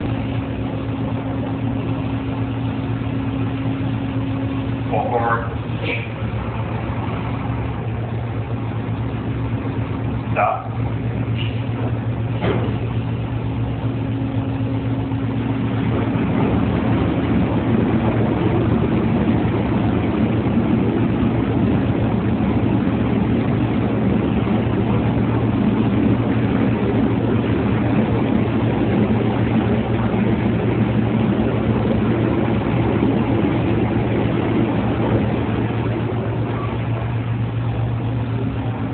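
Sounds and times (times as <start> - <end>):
heavy machinery humming: 0.0 - 38.9.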